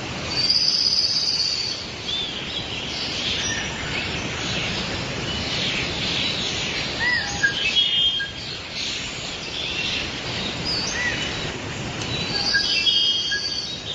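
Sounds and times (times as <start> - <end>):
background hiss: 0.0 - 13.9
songbirds chirping: 0.0 - 13.9.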